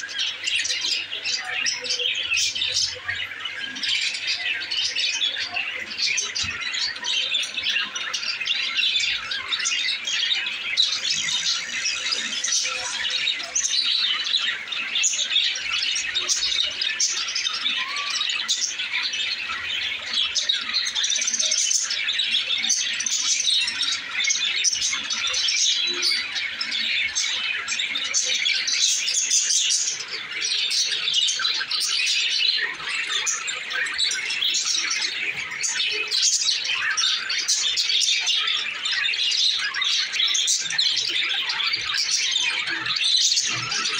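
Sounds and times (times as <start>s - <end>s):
budgerigars chattering and chirping: 0.0s - 43.9s.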